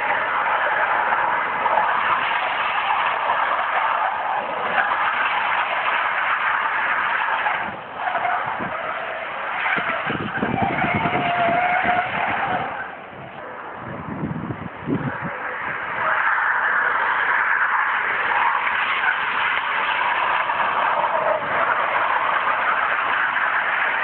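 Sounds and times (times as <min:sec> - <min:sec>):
road and rain noise: 0:00.0 - 0:24.0.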